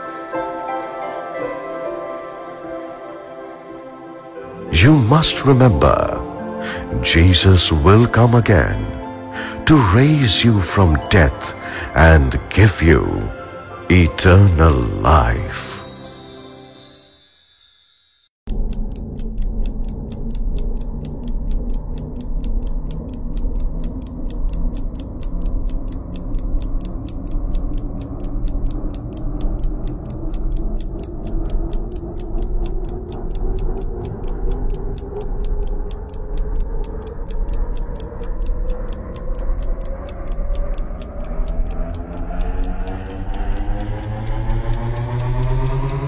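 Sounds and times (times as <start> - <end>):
low droning music: 0.0 - 17.6, 18.5 - 46.0
clock ticking fast: 4.7 - 17.6, 18.5 - 46.0.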